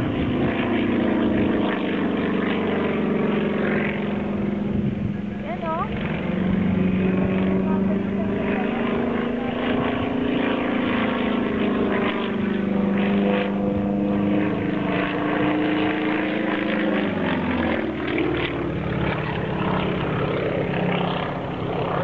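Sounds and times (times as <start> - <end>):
propeller plane droning overhead: 0.0 - 22.0.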